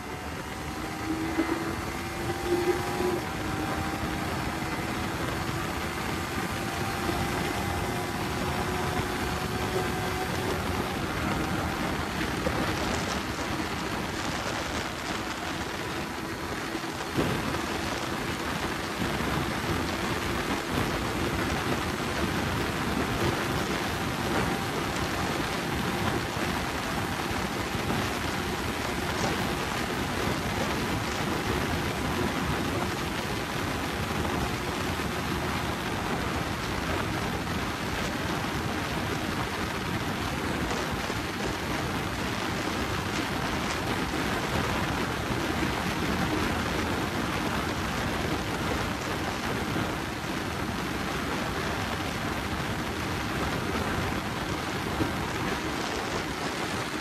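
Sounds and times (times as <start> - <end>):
faint motorcycle engine: 0.0 - 57.0
wind buffeting microphone: 0.0 - 57.0.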